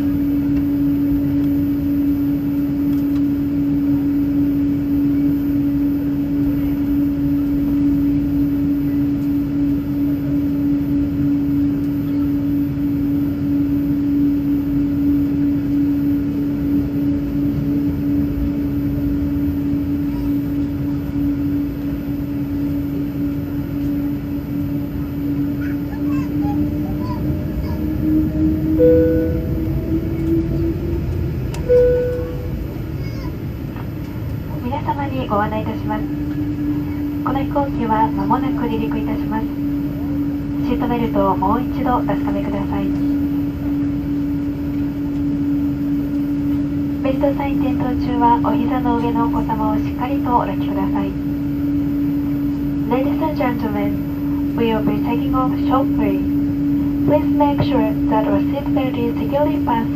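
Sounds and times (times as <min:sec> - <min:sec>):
held drone tone: 0:00.0 - 0:59.9
jet airliner cabin hum: 0:00.0 - 0:59.9.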